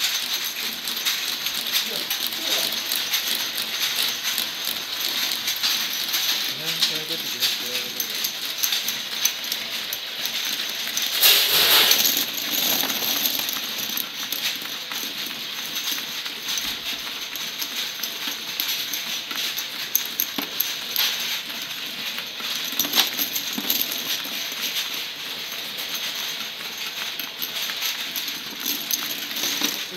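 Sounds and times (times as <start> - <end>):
glass vials clinking: 0.0 - 29.9.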